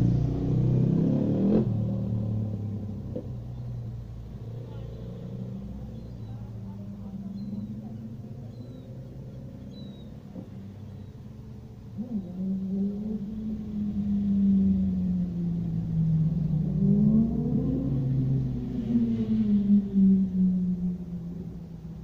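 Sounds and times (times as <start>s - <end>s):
car engines in slow traffic: 0.0s - 22.0s.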